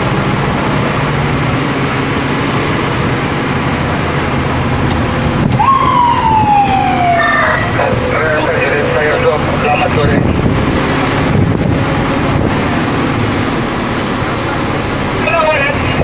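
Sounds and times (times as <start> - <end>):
fire truck siren: 0.0 - 16.0
truck diesel engine running: 0.0 - 16.0.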